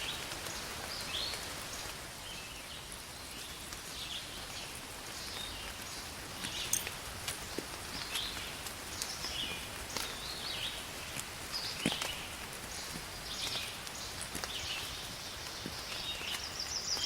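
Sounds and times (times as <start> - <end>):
raindrops ticking: 0.0 - 2.2, 2.8 - 17.0
birds chirping: 0.0 - 17.0
steady rain hiss: 0.0 - 17.0.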